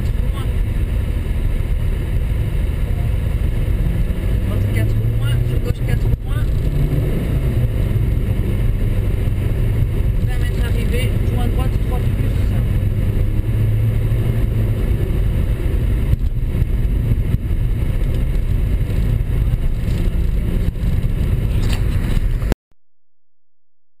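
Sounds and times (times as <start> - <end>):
car engine and tyre noise: 0.0 - 22.6.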